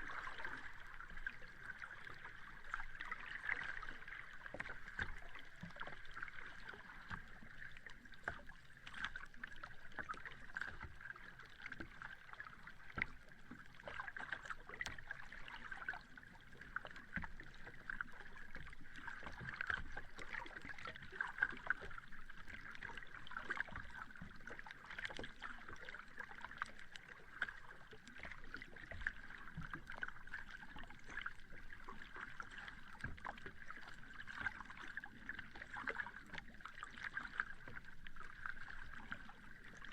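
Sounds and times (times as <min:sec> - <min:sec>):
sea water lapping at shore: 0:00.0 - 0:39.9.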